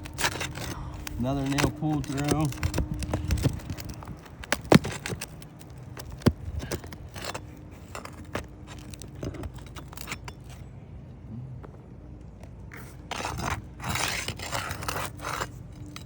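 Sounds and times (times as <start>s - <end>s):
metal tool scraping roof shingles: 0.0s - 10.7s, 12.7s - 16.0s.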